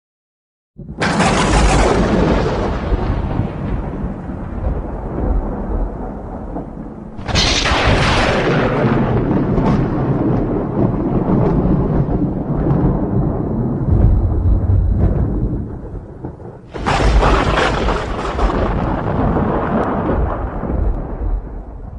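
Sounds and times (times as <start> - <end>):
rumbling thunder: 0.8 - 21.9
sharp thunder crack: 0.8 - 21.9.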